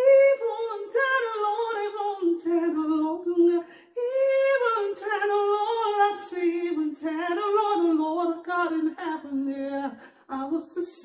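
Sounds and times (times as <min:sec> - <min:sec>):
woman singing a cappella: 0:00.0 - 0:11.0.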